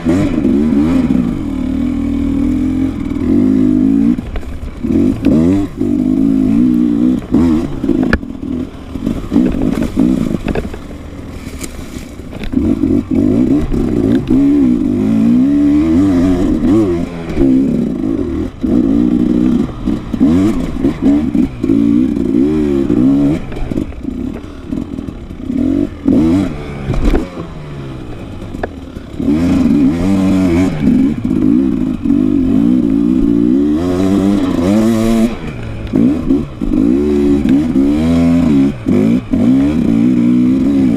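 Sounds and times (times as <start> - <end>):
clatter: 0.0 - 40.9
dirt bike engine revving: 0.0 - 40.9.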